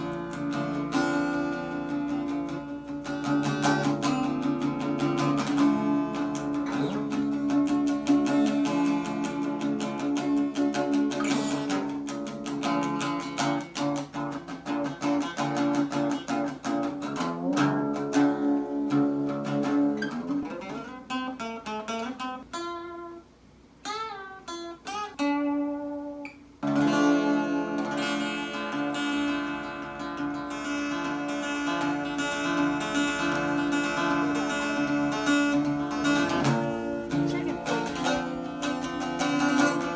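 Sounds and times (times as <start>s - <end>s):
acoustic guitar plucked notes: 0.0s - 39.9s.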